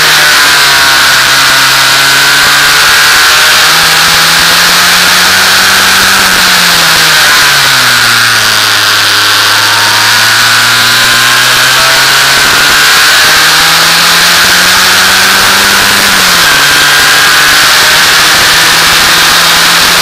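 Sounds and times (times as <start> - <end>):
racing car engine: 0.0 - 20.0.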